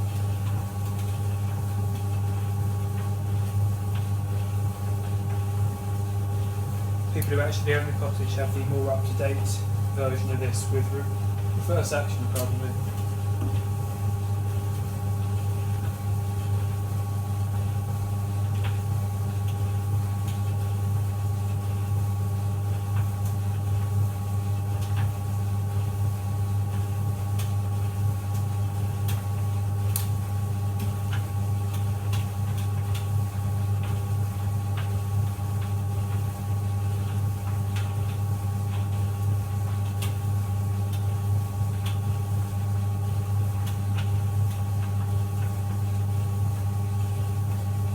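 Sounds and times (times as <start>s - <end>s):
tumble dryer motor hum: 0.0s - 47.9s.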